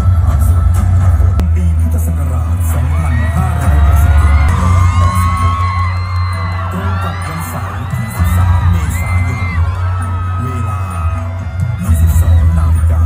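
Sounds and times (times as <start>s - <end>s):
loud music with heavy bass: 0.0s - 13.0s
high gliding singing: 1.4s - 13.0s.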